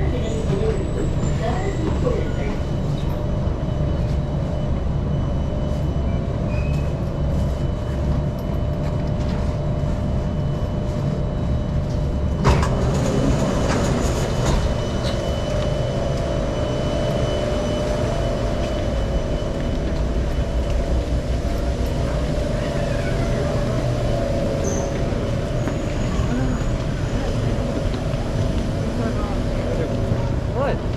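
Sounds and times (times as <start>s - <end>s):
train running with low rumble: 0.0s - 30.9s
train whine: 0.0s - 30.9s.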